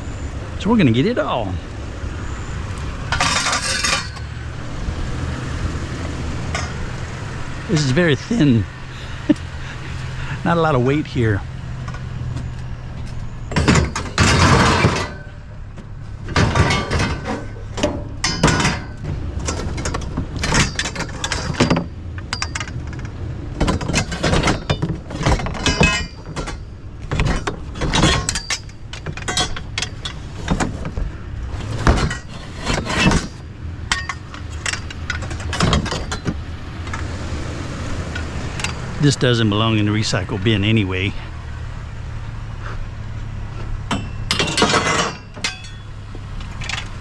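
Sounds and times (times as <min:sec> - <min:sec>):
low engine hum: 0:00.0 - 0:47.0
sheet metal clanking and scraping: 0:03.0 - 0:04.6, 0:05.4 - 0:37.2, 0:37.9 - 0:41.3, 0:43.6 - 0:47.0.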